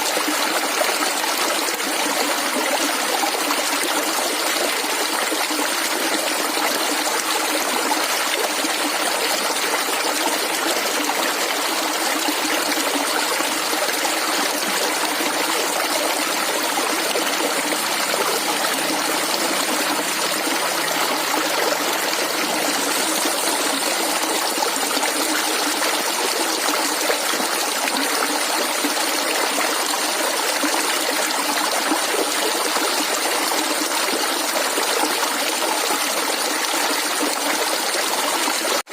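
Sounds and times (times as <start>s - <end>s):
stream flowing and gurgling: 0.0s - 38.9s.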